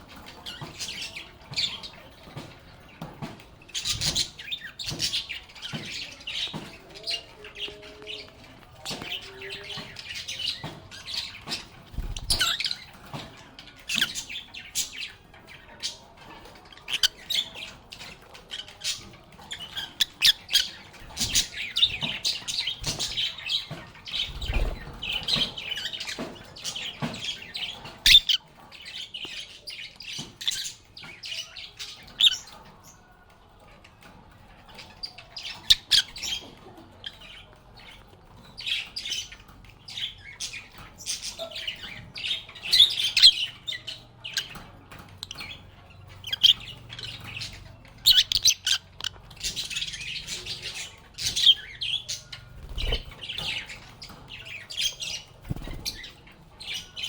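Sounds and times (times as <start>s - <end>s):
birds chirping and chattering: 0.0s - 57.0s.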